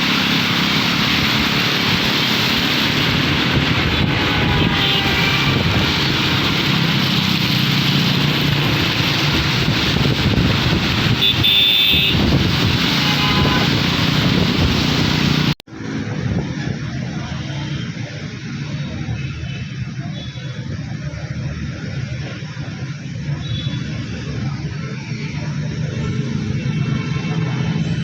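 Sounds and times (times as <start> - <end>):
dull road noise: 0.0 - 28.0
heavy rain: 0.0 - 28.0
tyre spray on wet road: 0.0 - 28.0.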